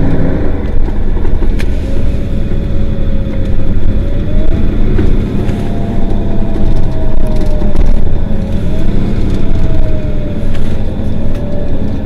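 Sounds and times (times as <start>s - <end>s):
bus engine rumble with whine: 0.0s - 12.0s.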